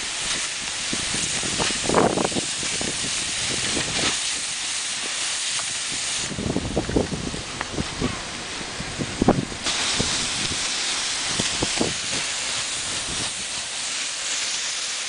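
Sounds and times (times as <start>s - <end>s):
embers crackling: 0.0s - 15.0s
hose spray and steam hissing: 0.0s - 15.0s.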